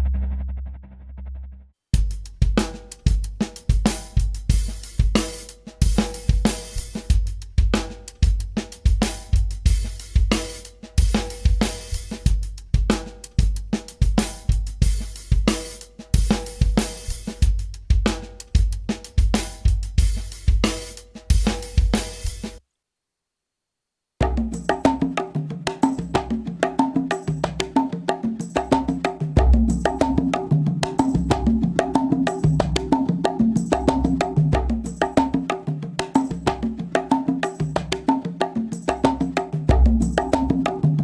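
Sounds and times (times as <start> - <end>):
drum loop beat: 2.0 - 22.6, 24.2 - 41.0.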